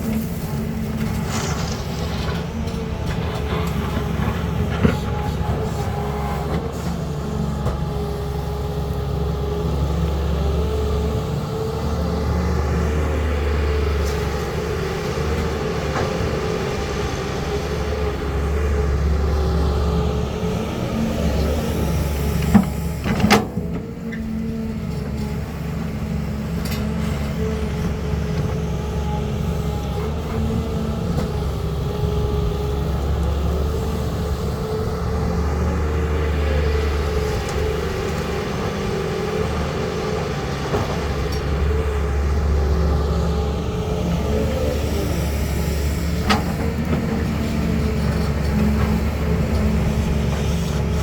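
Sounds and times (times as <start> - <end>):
excavator diesel engine droning: 0.0 - 51.0.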